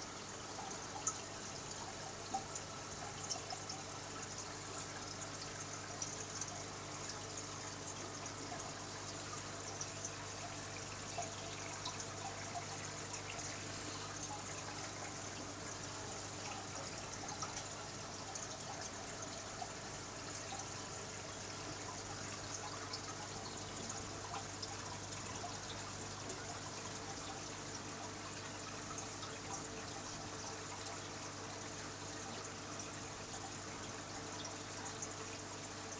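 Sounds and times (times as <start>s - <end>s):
aquarium water bubbling and trickling: 0.0s - 35.9s
low steady hum: 0.0s - 35.9s
drip-like ticks: 0.2s - 35.9s.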